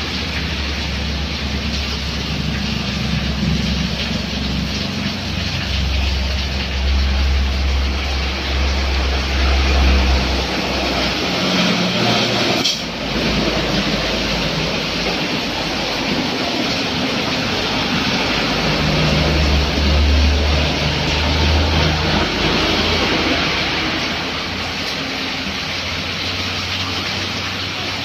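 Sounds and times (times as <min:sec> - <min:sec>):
rain and tyres on wet road: 0:00.0 - 0:28.0.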